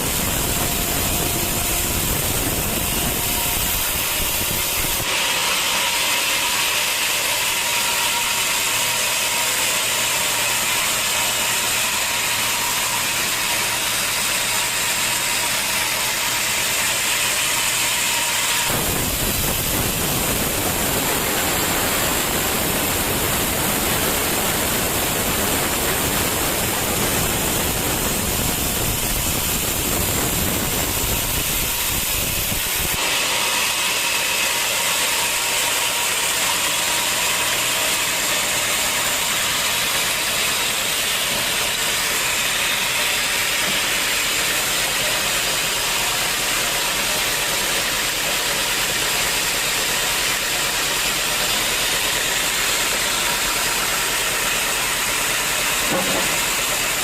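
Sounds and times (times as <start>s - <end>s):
sawmill saw hissing: 0.0s - 57.0s.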